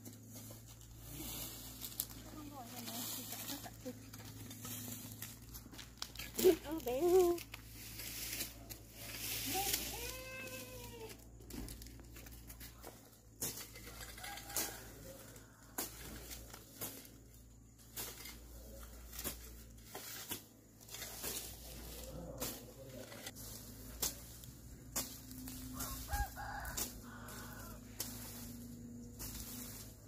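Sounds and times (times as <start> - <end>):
hoe scraping dry ground: 0.0 - 30.0.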